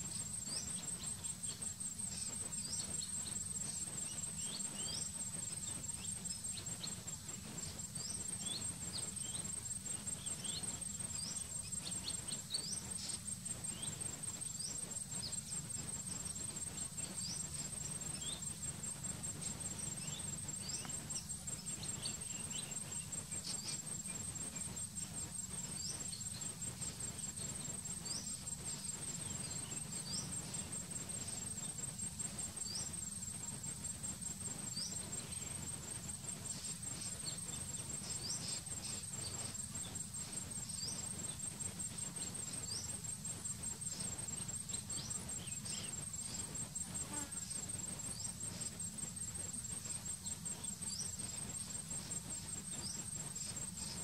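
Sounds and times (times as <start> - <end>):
birds chirping: 0.0 - 54.0
high-pitched insect trill: 0.0 - 54.0.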